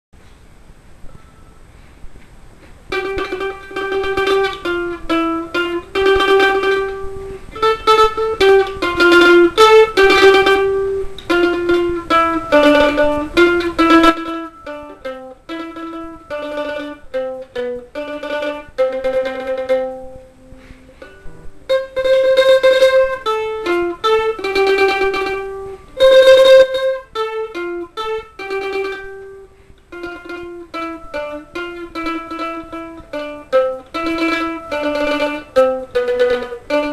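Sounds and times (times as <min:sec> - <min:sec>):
plucked string tremolo melody: 0:02.9 - 0:36.9.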